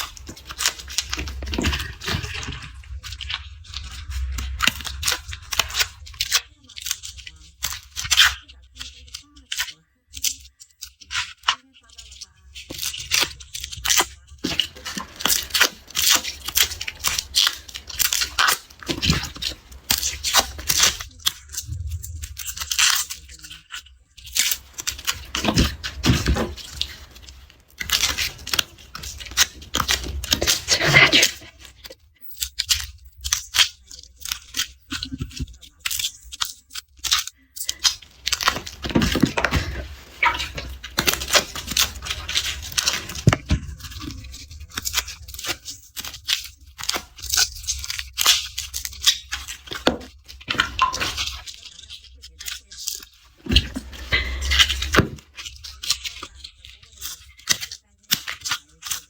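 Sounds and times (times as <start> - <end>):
garlic skins crackling and tearing: 0.0 - 8.4, 12.6 - 59.0.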